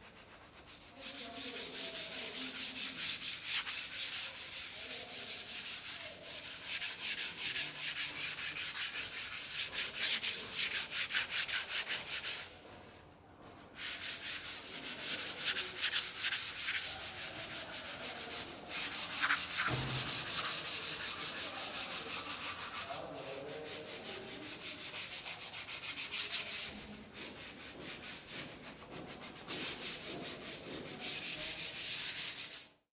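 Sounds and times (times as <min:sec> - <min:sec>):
sandpaper rubbing on surface: 0:00.1 - 0:12.5, 0:13.8 - 0:32.7.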